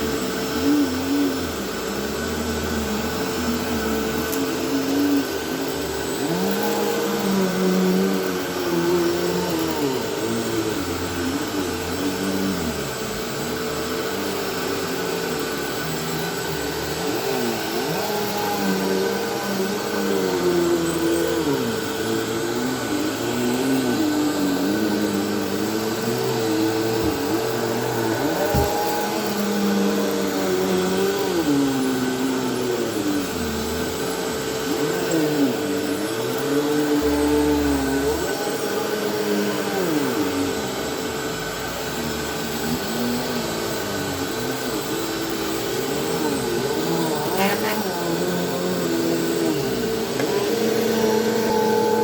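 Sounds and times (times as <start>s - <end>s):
upright vacuum cleaner running: 0.0s - 52.0s.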